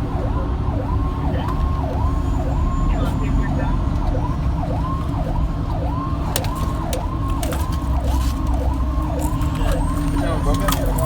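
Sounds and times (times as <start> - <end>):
fire engine siren yelping: 0.0 - 11.0
truck engine rumble: 0.0 - 11.0.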